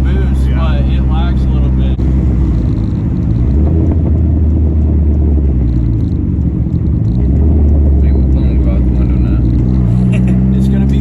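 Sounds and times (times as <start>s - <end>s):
car engine and exhaust droning: 0.0s - 11.0s.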